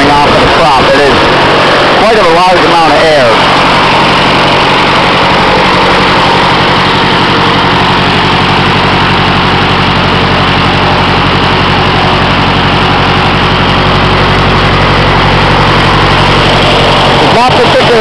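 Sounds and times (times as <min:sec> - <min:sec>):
air-cooled engine running steadily: 0:00.0 - 0:18.0
propeller wash rushing: 0:00.0 - 0:18.0.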